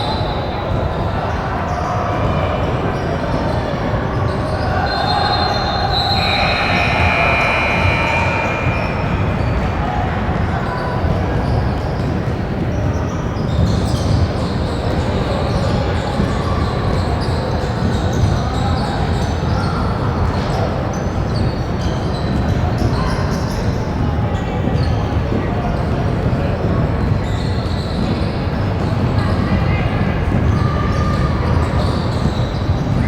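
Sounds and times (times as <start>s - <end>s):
murmur of players and spectators: 0.0s - 33.0s.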